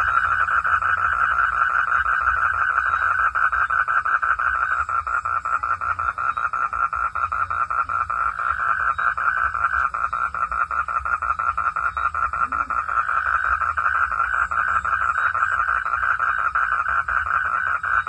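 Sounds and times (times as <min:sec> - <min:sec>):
frogs calling in chorus: 0:00.0 - 0:18.0.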